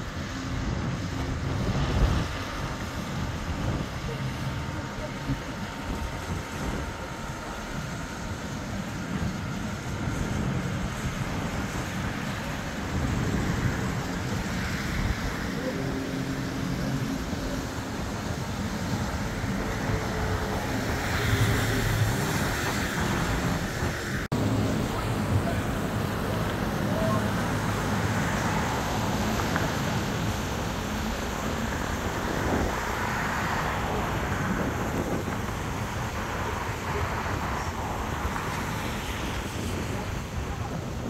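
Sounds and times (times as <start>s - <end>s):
passing traffic rumble: 0.0s - 41.0s
wind noise: 0.0s - 41.0s.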